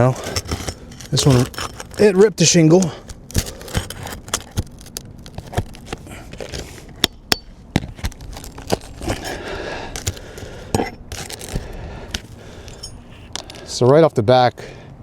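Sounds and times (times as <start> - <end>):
metal clicking on shingle: 0.0 - 13.7
shingle tearing and scraping: 0.0 - 13.8.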